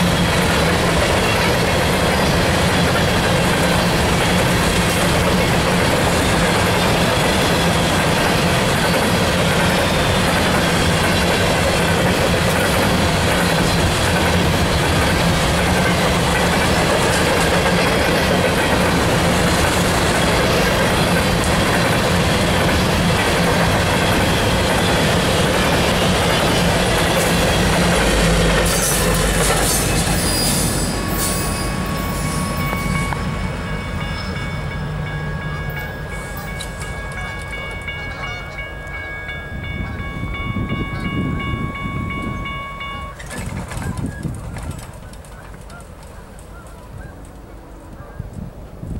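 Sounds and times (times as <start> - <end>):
clickety-clack of rail joints: 0.0 - 48.9
steel wheels on rail: 0.0 - 48.9.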